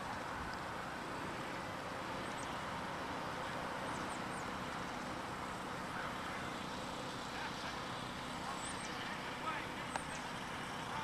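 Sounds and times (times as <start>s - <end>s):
outdoor hiss and rumble: 0.0s - 11.0s.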